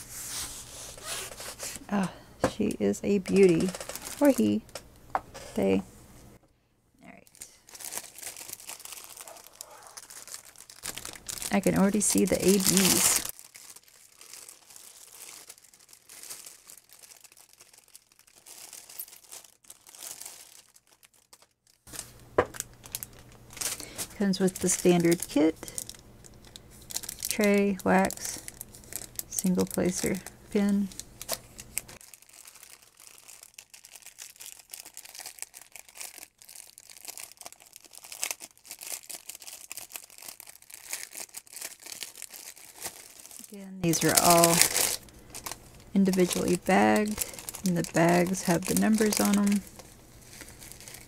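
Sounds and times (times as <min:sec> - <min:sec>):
plastic bag crinkling: 0:03.2 - 0:04.8, 0:07.2 - 0:51.0
small packets shifting: 0:03.3 - 0:04.8, 0:07.3 - 0:51.0.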